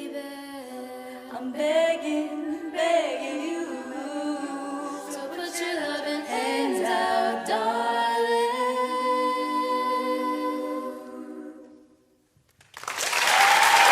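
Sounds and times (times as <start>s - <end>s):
a cappella group singing: 0.0s - 12.2s.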